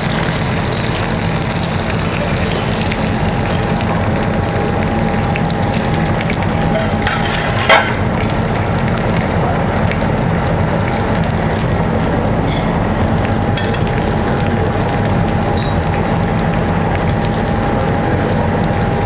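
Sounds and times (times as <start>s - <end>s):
meat sizzling in butter in a pan: 0.0s - 19.0s
steady low hum: 0.0s - 19.0s.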